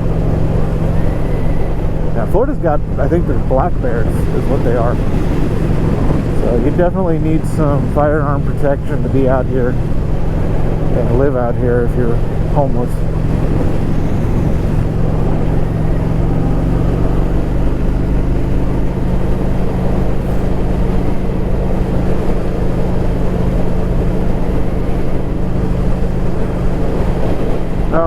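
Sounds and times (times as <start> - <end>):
motorcycle engine humming: 0.0 - 28.0
road and wind noise: 0.0 - 28.0.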